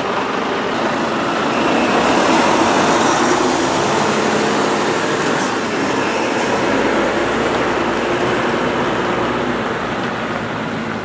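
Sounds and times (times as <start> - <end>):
diesel truck engine under load: 0.0 - 11.0
rolling tyres and trailer noise: 0.0 - 11.0.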